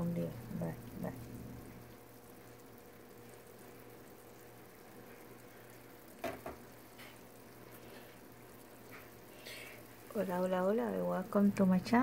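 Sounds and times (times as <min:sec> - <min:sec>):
meat sizzling in a roasting pan: 0:00.0 - 0:12.0
oven hum: 0:00.0 - 0:12.0.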